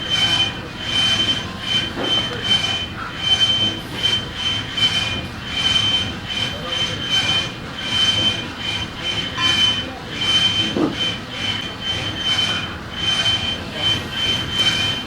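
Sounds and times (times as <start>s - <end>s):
machine pulsing metallic squeal: 0.0s - 15.0s.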